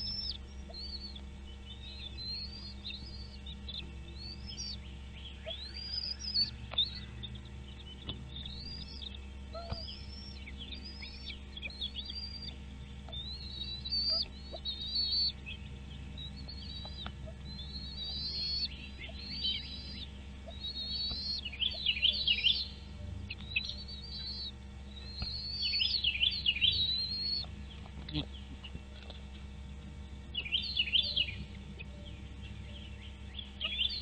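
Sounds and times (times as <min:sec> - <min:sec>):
nestling birds cheeping: 0:00.0 - 0:34.0
steady low hum: 0:00.0 - 0:34.0.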